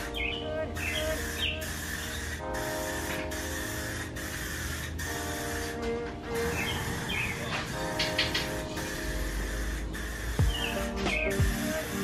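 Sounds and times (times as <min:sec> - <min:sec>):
aerosol spray hissing: 0:00.0 - 0:12.0.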